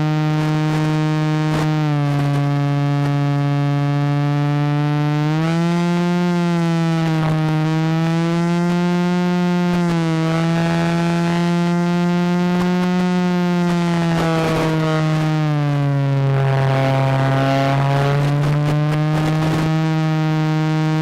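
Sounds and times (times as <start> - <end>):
electric motor and propeller whining: 0.0 - 21.0.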